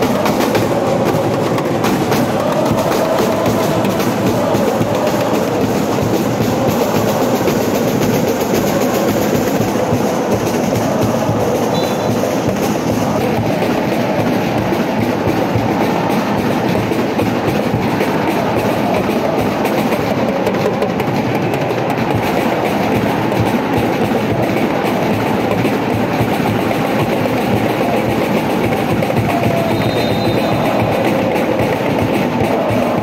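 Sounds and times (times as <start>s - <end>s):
crowd cheering and chanting: 0.0s - 33.0s.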